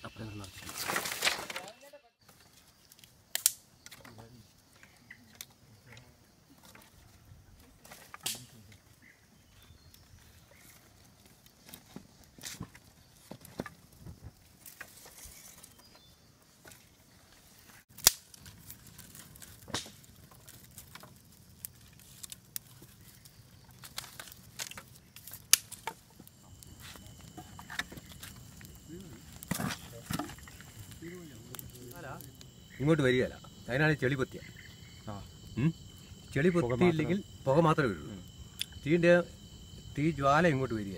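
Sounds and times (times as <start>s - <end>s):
wood fire crackling and popping: 0.3s - 5.9s, 6.5s - 9.0s, 9.6s - 15.8s, 17.8s - 40.9s.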